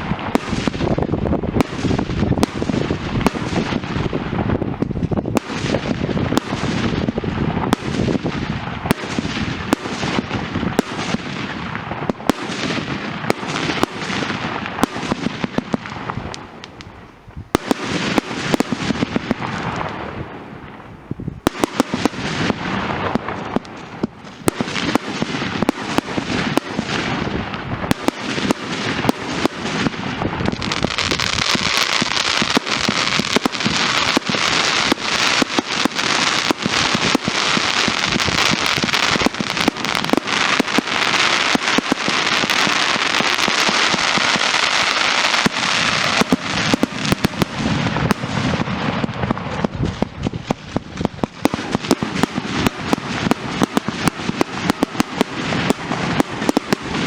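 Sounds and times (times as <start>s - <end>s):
fireworks hiss: 0.0s - 57.0s
fireworks pops and bangs: 0.0s - 57.0s.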